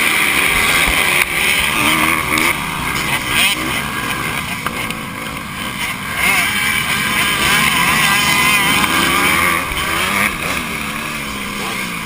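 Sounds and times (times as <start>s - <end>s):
dirt bikes racing: 0.0s - 12.0s
motocross bike engine revving: 0.0s - 12.0s.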